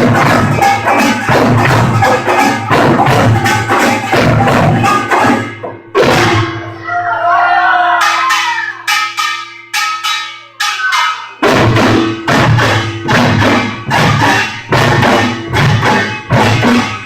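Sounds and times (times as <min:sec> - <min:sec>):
drums and gongs beating: 0:00.0 - 0:17.0.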